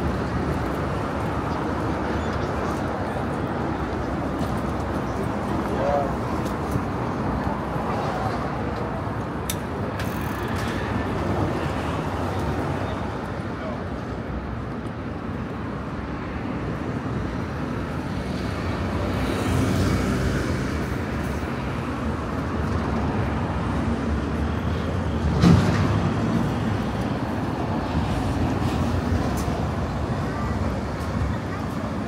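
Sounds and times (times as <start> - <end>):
street traffic passing: 0.0 - 32.0.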